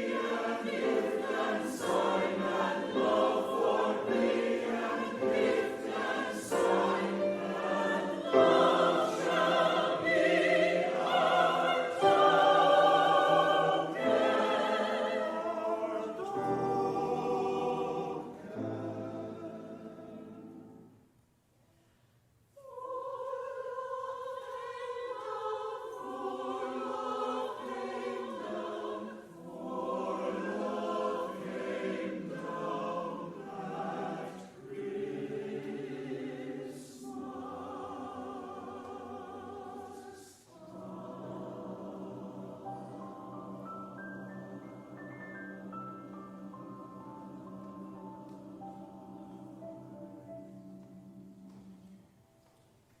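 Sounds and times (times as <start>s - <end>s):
choir singing: 0.0s - 21.1s, 22.5s - 53.0s.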